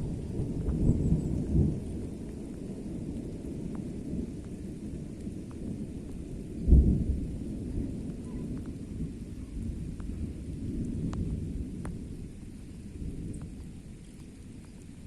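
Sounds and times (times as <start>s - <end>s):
thunder rumbling: 0.0s - 14.7s.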